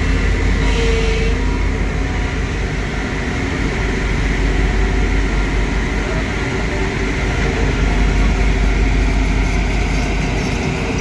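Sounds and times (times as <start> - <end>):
road roller engine: 0.0 - 11.0.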